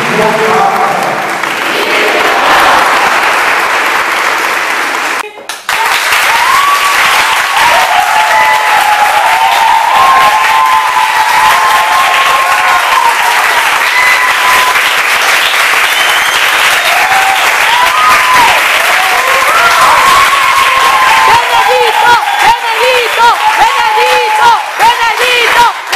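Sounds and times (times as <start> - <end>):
crowd applauding: 0.0 - 25.9.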